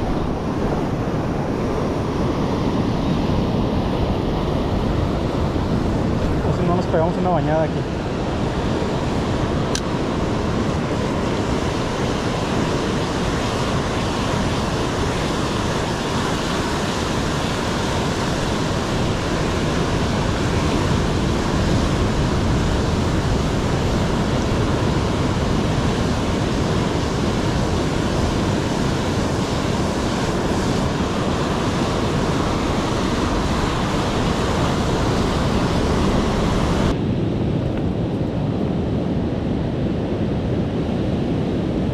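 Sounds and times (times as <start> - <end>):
rough sea surf washing: 0.0 - 41.9
wind buffeting microphone: 0.0 - 41.9.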